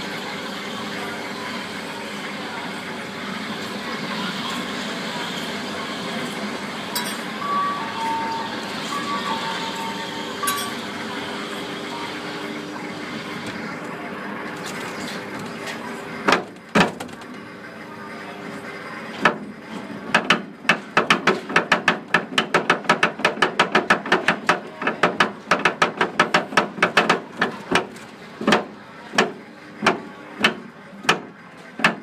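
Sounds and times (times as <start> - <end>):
ride gondola running on rail: 0.0 - 32.0.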